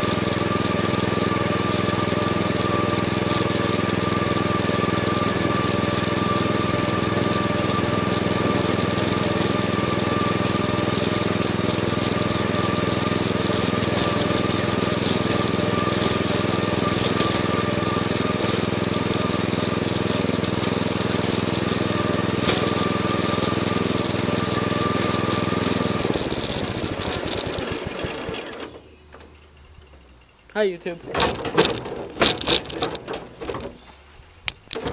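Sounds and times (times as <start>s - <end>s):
riding lawn mower engine: 0.0s - 34.9s.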